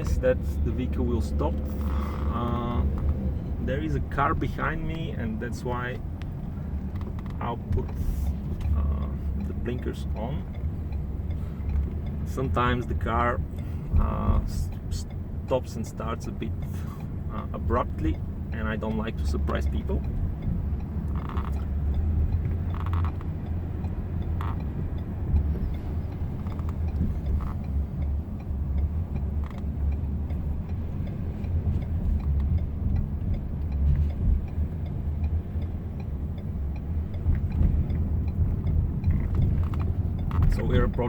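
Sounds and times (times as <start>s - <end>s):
road and drivetrain rumble: 0.0s - 41.0s.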